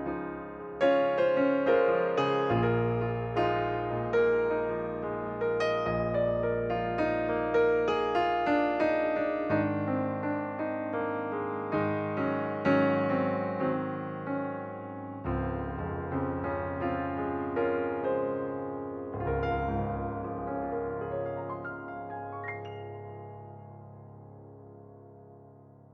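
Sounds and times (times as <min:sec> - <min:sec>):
soft piano music: 0:00.0 - 0:25.9.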